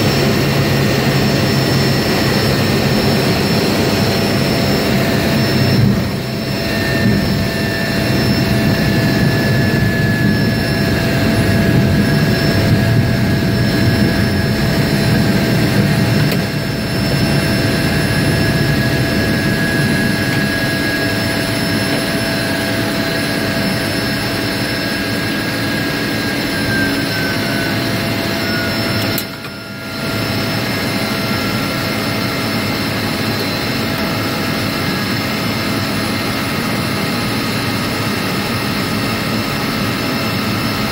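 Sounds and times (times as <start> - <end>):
floatplane engine and propeller droning: 0.0 - 40.9.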